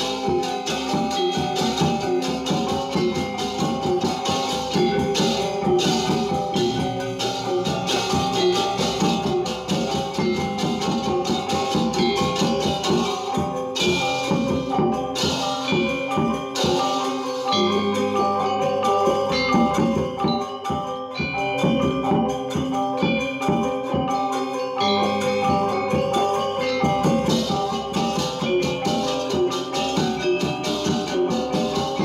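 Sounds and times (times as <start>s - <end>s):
gamelan metallophones and gongs: 0.0s - 32.0s.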